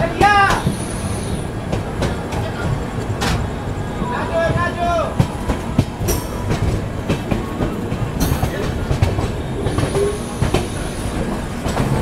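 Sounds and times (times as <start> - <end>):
train rumbling on track: 0.0 - 12.0
wheels clacking over rails: 0.0 - 12.0.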